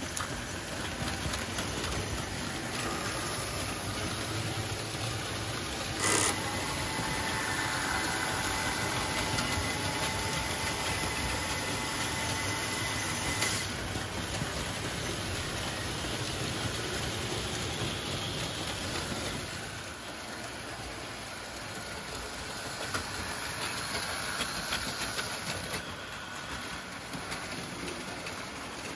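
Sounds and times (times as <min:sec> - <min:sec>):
model trains running on track: 0:00.0 - 0:28.9.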